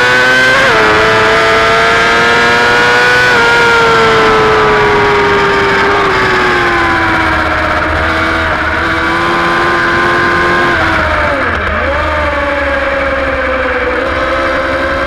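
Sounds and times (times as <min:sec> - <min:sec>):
superbike engine at high revs: 0:00.0 - 0:15.0.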